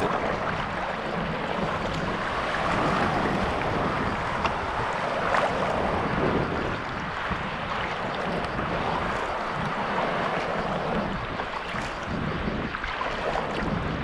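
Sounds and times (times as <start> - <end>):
water splashing around paddle: 0.0 - 14.0
wind rumble on microphone: 0.0 - 14.0.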